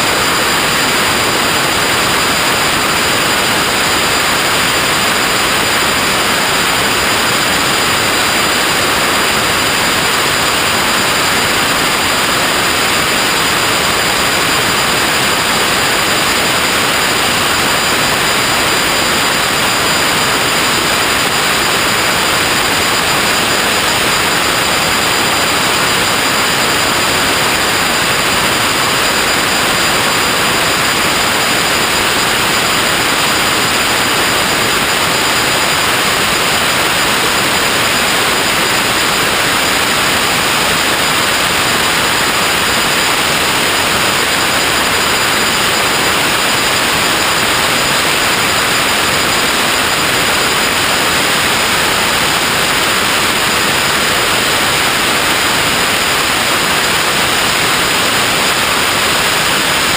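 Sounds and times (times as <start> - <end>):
steady static hiss: 0.0 - 59.9.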